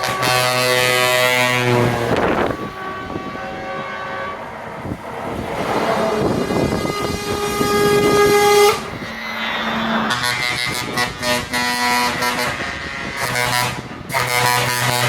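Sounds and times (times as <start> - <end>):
truck air horn blast: 0.0 - 15.0
truck engine noise: 0.0 - 15.0.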